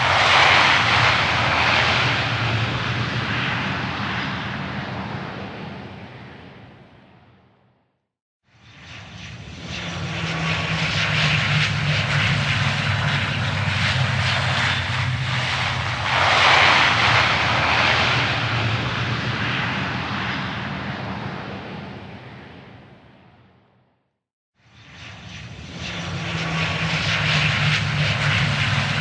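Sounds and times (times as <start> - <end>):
airplane landing: 0.0 - 7.4, 8.5 - 23.5, 24.6 - 29.0.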